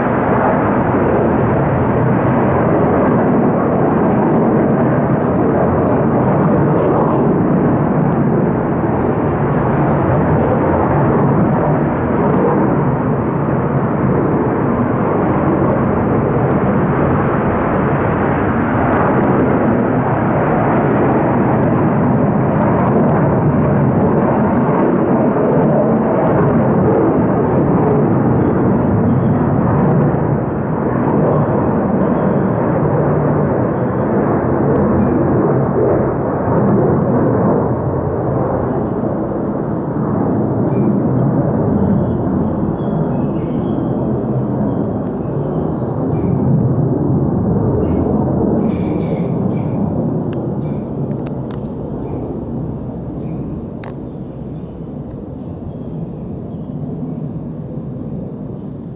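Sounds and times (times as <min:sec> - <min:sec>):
fighter jet roar: 0:00.0 - 0:23.6, 0:29.4 - 0:58.9.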